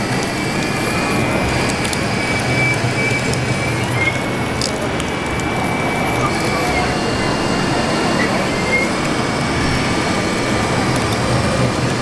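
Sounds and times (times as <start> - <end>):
low mechanical noise: 0.0 - 12.0
model bulldozer motors whining: 0.0 - 12.0.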